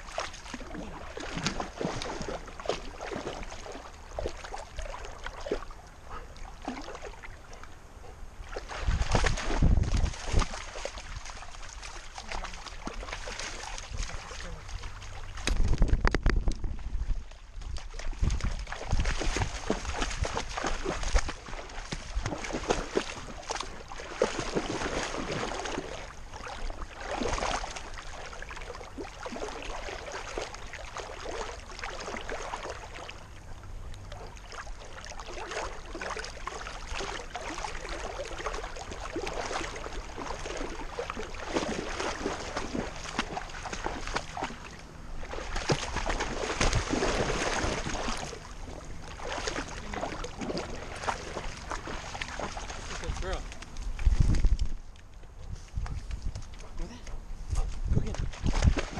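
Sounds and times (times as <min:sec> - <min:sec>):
water splashing and sloshing: 0:00.0 - 0:58.9.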